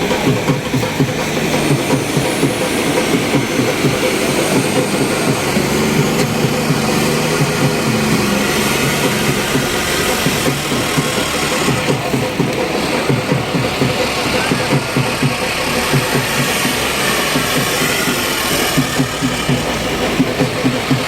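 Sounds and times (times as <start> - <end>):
tractor diesel engine chugging: 0.0 - 21.0.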